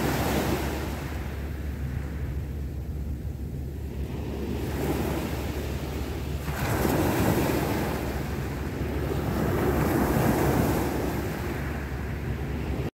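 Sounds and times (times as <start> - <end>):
sea waves breaking on shore: 0.0 - 12.9
wind buffeting microphone: 0.0 - 12.9.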